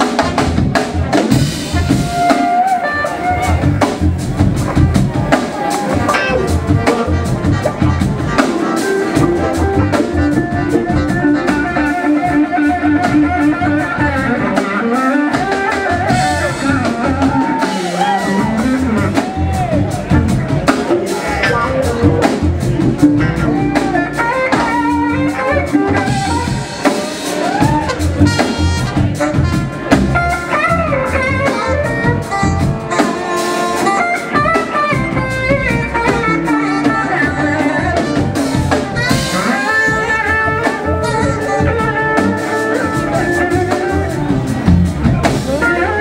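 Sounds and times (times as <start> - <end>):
blues-rock band playing: 0.0 - 46.0
drum kit beat: 0.0 - 46.0
electric guitar lead: 0.0 - 46.0.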